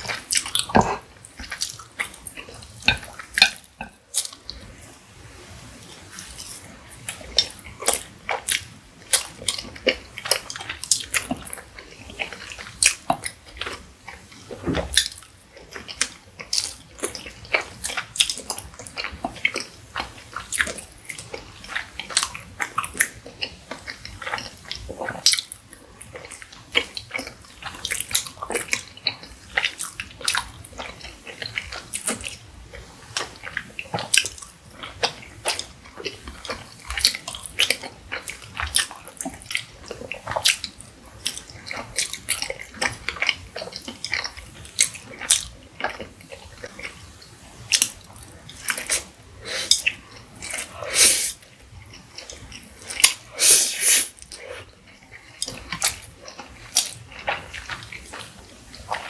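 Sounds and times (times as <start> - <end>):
chewing soft food: 0.0 - 59.0.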